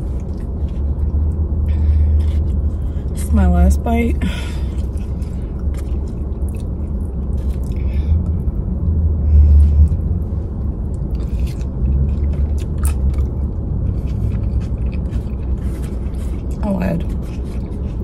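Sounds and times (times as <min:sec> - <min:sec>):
person chewing: 0:00.0 - 0:03.2, 0:04.5 - 0:08.6, 0:09.6 - 0:18.0
low rumble: 0:00.0 - 0:18.0.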